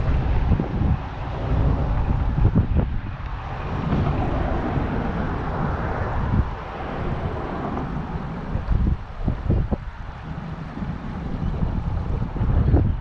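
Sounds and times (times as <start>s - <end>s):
broad rushing noise: 0.0s - 13.0s
low rumble: 0.0s - 13.0s
wind buffeting microphone: 0.0s - 13.0s.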